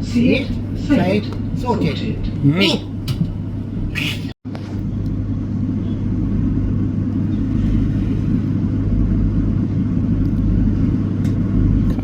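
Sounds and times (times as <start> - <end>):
train rumbling from inside carriage: 0.0 - 12.0.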